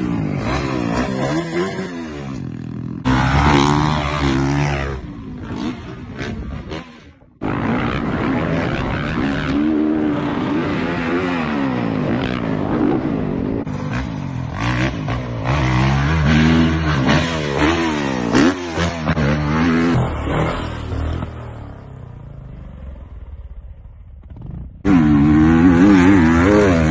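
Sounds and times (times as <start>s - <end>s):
dirt bike engines revving: 0.0s - 23.1s, 24.2s - 26.9s.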